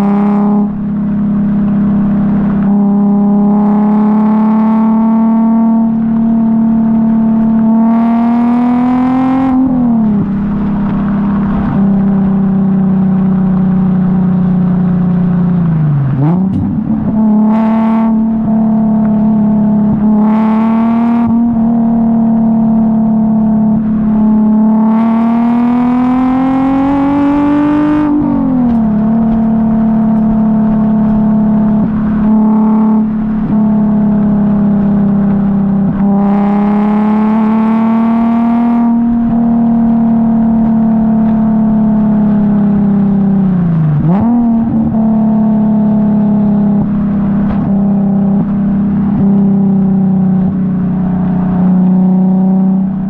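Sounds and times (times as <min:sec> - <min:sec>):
car exhaust drone while driving: 0:00.0 - 0:53.0.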